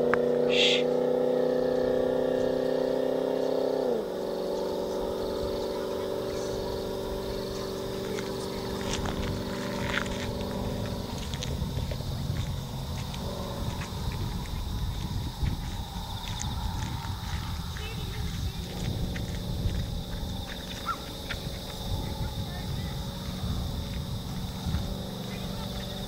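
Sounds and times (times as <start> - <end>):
distant car engine droning: 0.0 - 26.0.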